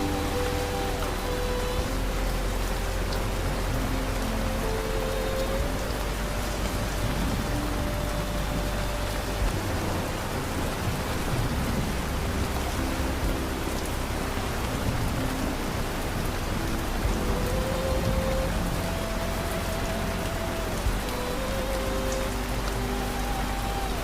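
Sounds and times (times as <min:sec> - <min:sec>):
gentle music: 0:00.0 - 0:24.0
steady rain: 0:00.0 - 0:24.0.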